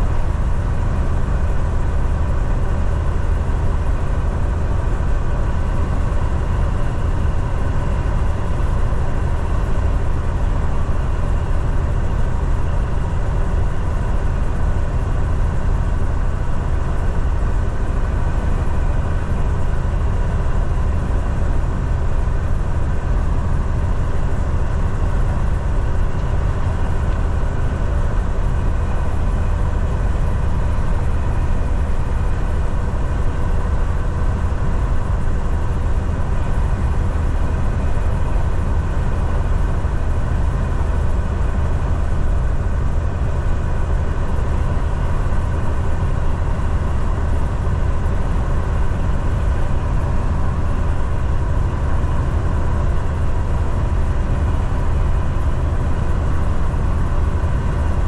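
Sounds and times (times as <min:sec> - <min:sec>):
truck engine and road noise: 0:00.0 - 0:58.0.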